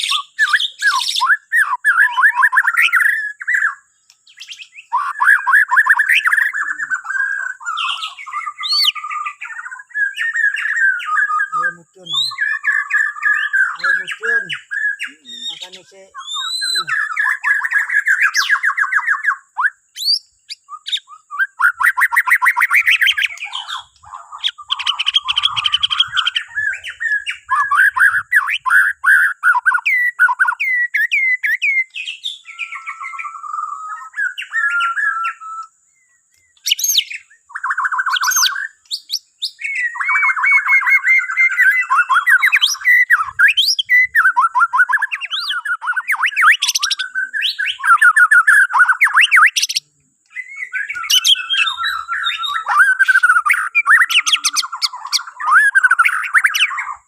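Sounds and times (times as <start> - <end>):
bird singing trills and whistles: 0.0 - 57.0.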